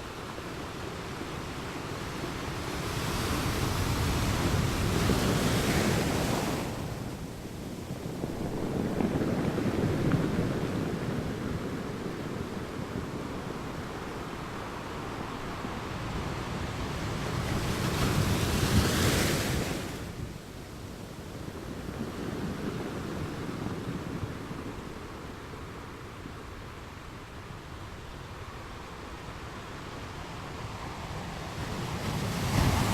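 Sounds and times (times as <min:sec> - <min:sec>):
sea waves washing in: 0:00.0 - 0:32.9
wind on microphone: 0:00.0 - 0:32.9.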